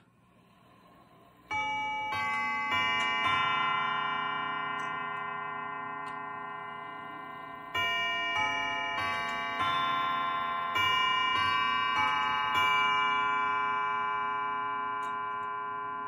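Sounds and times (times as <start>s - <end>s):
mantel clock chimes: 0.6s - 16.0s.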